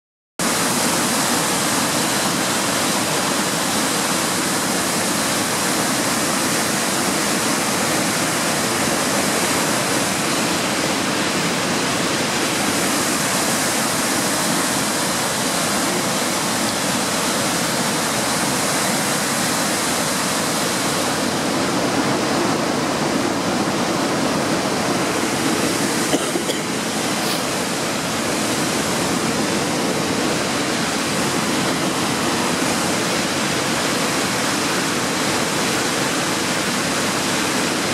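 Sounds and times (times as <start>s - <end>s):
waterfall rushing: 0.4s - 37.9s.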